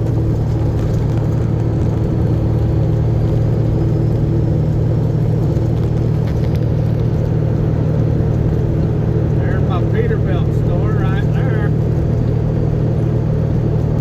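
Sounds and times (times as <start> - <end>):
truck engine and road drone: 0.0 - 14.0.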